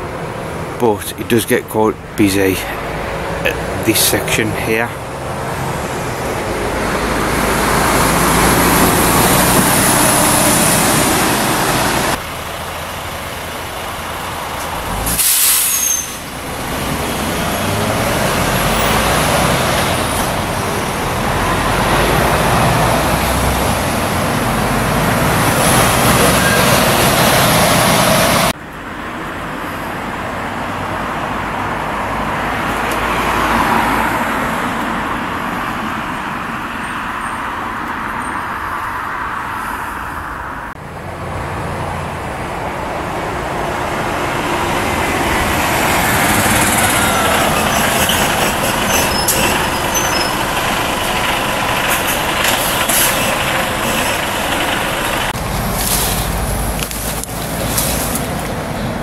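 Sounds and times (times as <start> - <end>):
road traffic rushing: 0.0 - 59.0.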